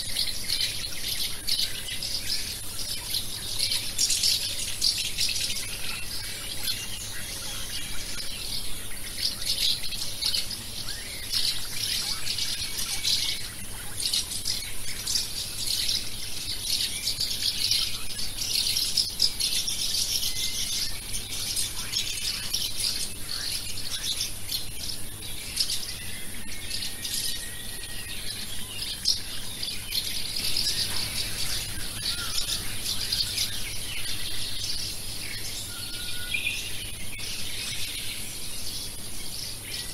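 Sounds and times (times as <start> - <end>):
small birds chirping: 0.0 - 39.9
steady high-pitched hiss: 0.0 - 39.9.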